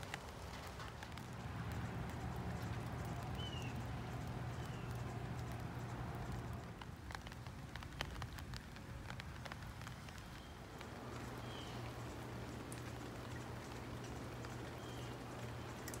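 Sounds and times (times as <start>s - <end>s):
low steady hum: 0.0s - 16.0s
rain falling on wet ground: 0.0s - 16.0s
raindrops spattering: 0.0s - 16.0s.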